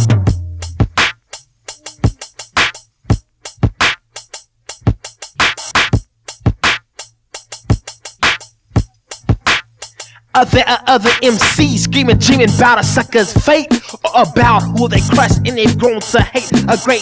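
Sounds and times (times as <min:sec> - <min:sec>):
drum machine beat: 0:00.0 - 0:17.0.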